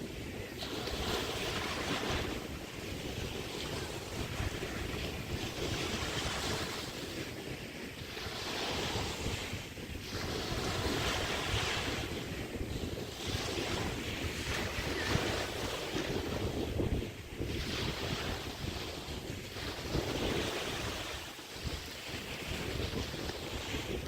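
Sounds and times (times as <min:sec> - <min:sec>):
small waves washing on beach: 0:00.0 - 0:24.0
wind rumbling on microphone: 0:00.0 - 0:24.0.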